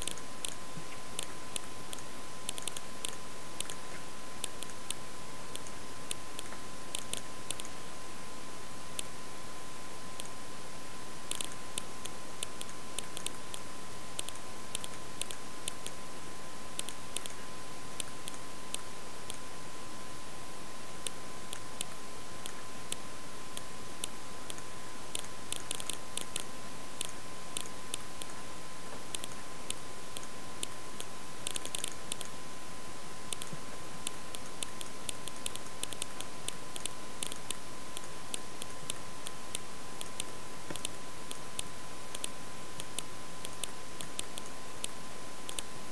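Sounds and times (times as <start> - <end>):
computer mouse clicking: 0.0 - 0.6, 1.2 - 7.8, 11.3 - 16.0, 16.8 - 17.4, 18.0 - 19.4, 21.0 - 23.0, 23.6 - 32.4, 33.3 - 45.7
steady hiss: 0.0 - 45.9.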